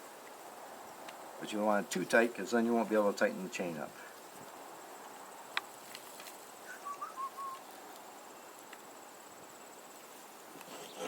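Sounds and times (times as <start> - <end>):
high thin insect drone: 0.3 - 11.0.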